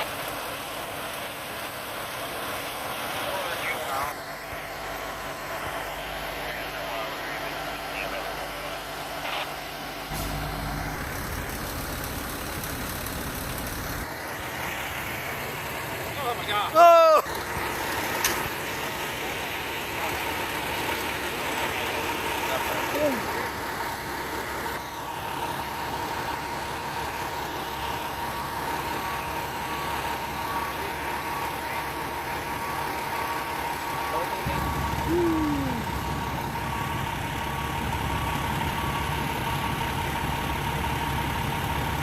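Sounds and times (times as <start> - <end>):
fire truck engine rumbling: 0.0 - 42.0.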